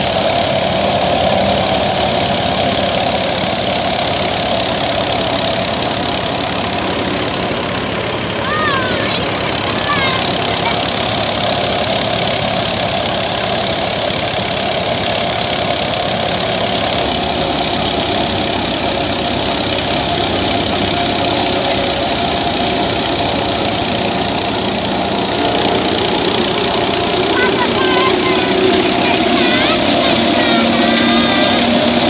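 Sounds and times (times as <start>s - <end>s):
thresher machinery noise: 0.0s - 32.0s
tractor diesel engine under load: 0.0s - 32.0s.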